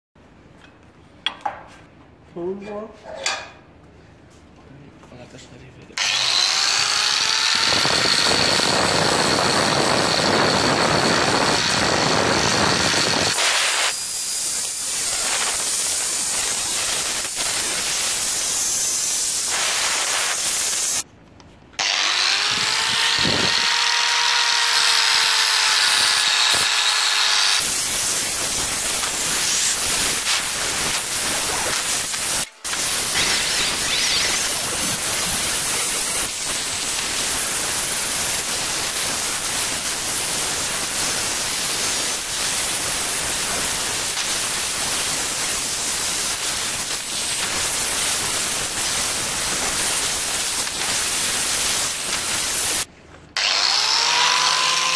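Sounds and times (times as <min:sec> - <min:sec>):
angle grinder grinding metal: 0:06.0 - 0:21.0, 0:21.8 - 0:54.9.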